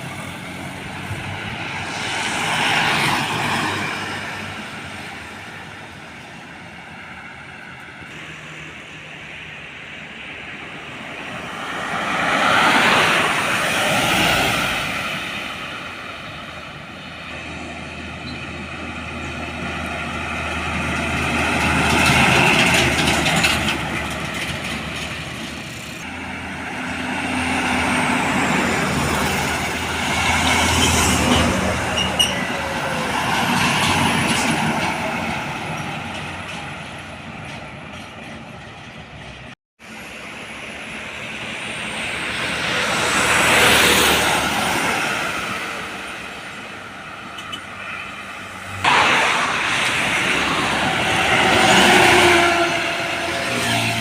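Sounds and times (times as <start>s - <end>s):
heavy trucks driving past: 0.0s - 54.0s.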